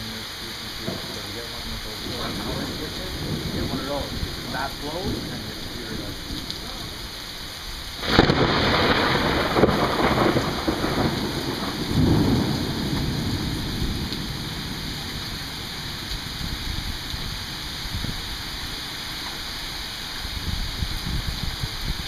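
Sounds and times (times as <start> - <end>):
steady rain: 0.0 - 22.0
thunder rumbling: 0.6 - 19.0.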